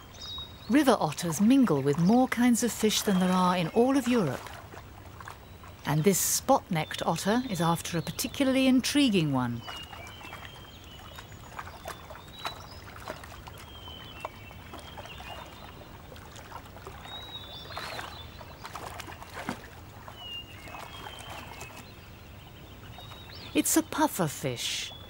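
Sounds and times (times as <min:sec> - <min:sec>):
water splashing and lapping: 0:00.0 - 0:25.0.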